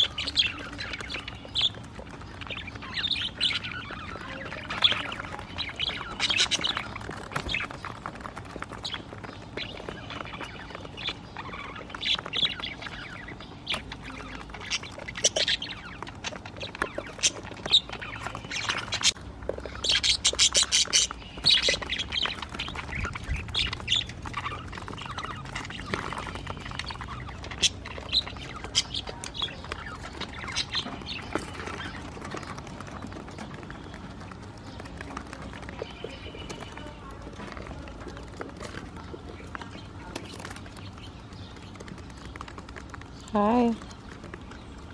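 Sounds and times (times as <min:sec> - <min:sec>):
budgerigars chirping and squawking: 0:00.0 - 0:44.9.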